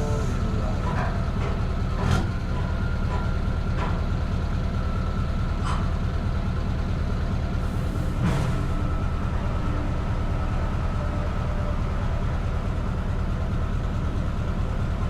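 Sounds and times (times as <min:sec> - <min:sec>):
truck engine deep rumble: 0:00.0 - 0:15.0.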